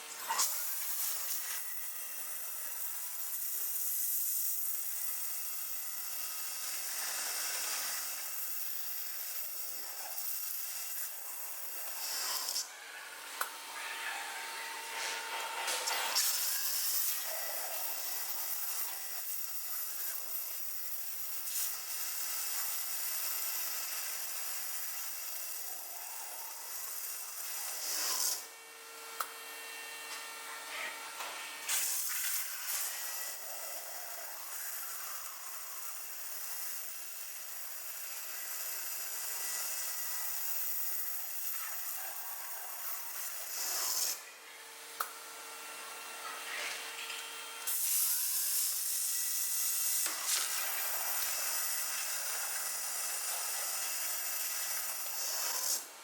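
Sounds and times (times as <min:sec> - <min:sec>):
stone cutting machine grinding: 0:00.0 - 0:56.0.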